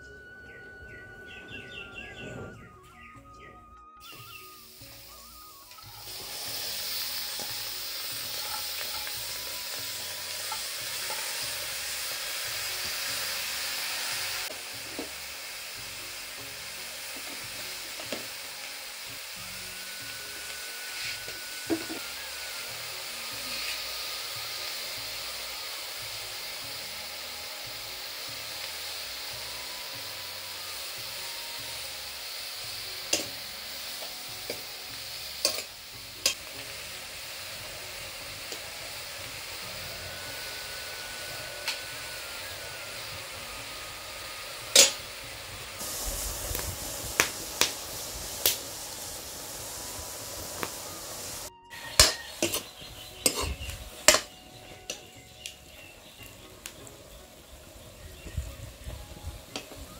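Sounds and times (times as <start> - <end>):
food sizzling in a wok: 4.0 - 59.9.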